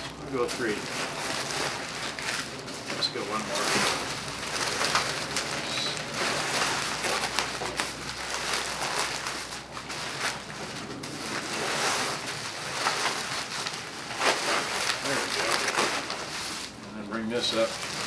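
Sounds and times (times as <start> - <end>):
bubble wrap rustling and crackling: 0.0 - 18.0.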